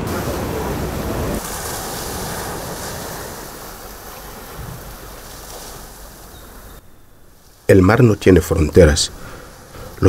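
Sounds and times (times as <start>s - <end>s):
sea surf washing on shore: 0.0s - 10.0s.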